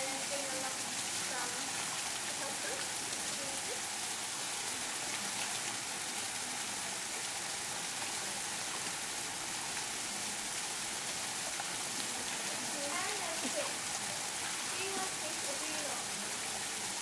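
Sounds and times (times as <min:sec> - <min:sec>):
splashing water hiss: 0:00.0 - 0:17.0.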